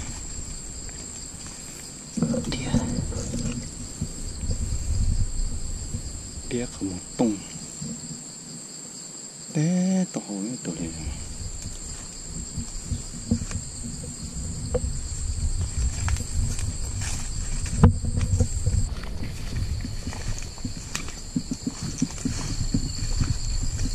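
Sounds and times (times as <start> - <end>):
low rumbling: 0.0 - 8.1, 10.9 - 23.9
high-pitched insect chorus: 0.0 - 23.9.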